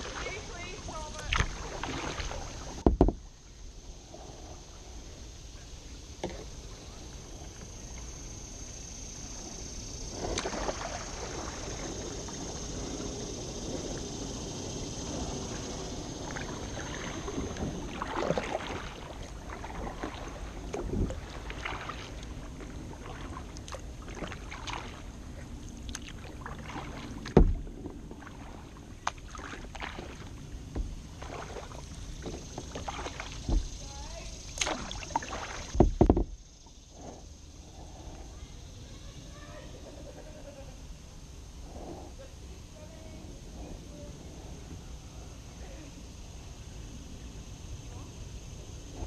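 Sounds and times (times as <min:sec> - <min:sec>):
paddle swishing through water: 0:00.0 - 0:40.6.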